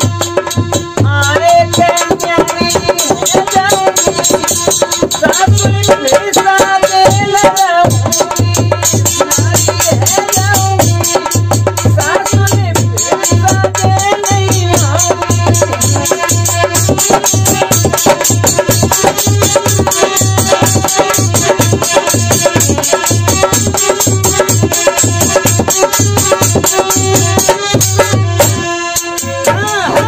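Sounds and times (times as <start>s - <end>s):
dholak drum strokes: 0.0s - 30.0s
harmonium chords and melody: 0.0s - 30.0s.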